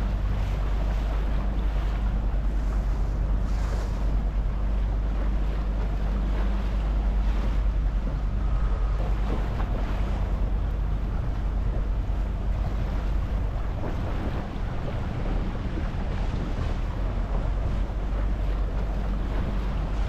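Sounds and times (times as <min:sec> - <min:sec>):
boat motor running: 0:00.0 - 0:20.0
water washing around boat: 0:00.0 - 0:20.0
wind buffeting microphone: 0:00.0 - 0:20.0.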